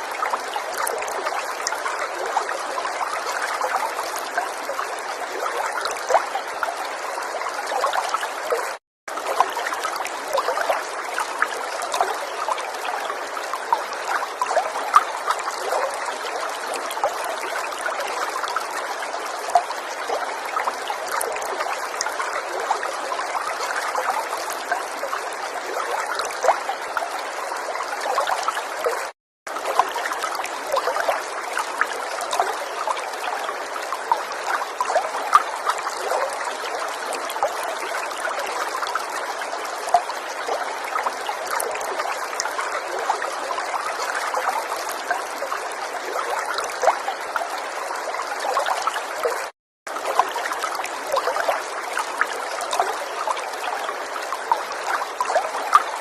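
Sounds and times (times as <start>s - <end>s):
river water babbling over stones: 0.0s - 56.0s.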